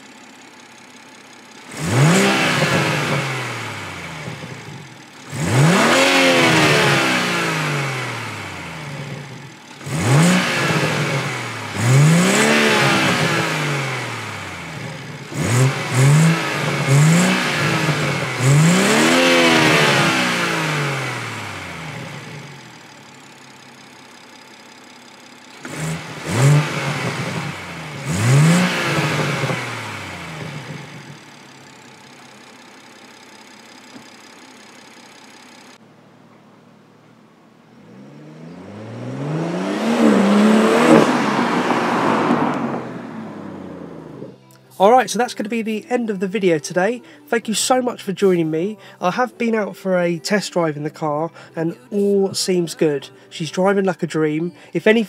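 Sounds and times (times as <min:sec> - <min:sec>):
car engine revving: 0:00.0 - 0:35.9, 0:37.1 - 0:53.8.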